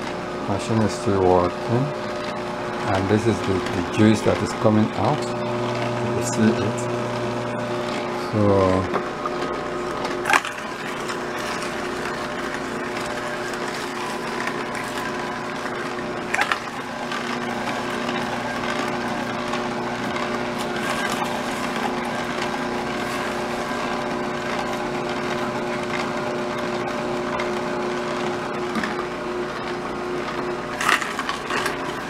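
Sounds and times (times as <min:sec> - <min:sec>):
juicer motor humming: 0:00.0 - 0:32.0.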